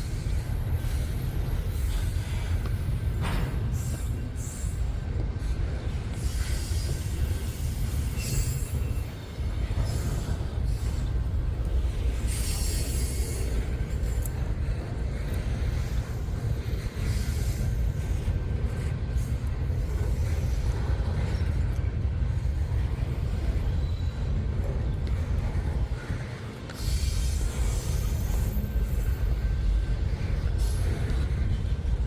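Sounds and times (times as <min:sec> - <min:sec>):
freight train rumbling past: 0:00.0 - 0:32.0
rasping train noise: 0:00.0 - 0:32.0.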